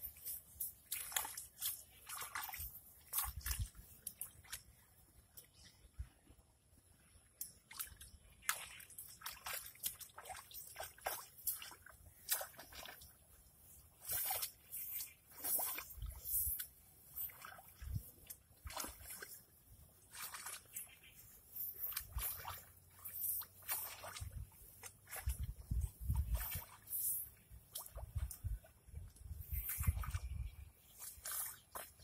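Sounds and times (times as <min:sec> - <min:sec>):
rake sloshing through mud and water: 0:00.0 - 0:05.7, 0:07.4 - 0:32.0.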